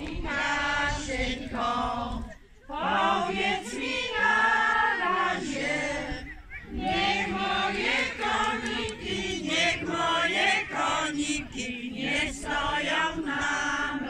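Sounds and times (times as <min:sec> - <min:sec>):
group singing a folk song: 0:00.0 - 0:14.0.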